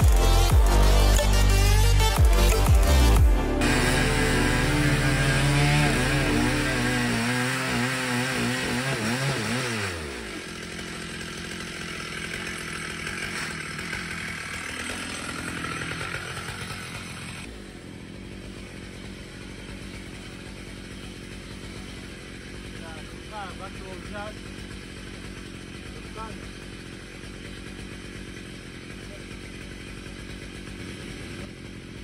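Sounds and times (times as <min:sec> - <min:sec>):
chainsaw cutting log: 0:00.0 - 0:32.0
faint steady saw noise: 0:00.0 - 0:32.0.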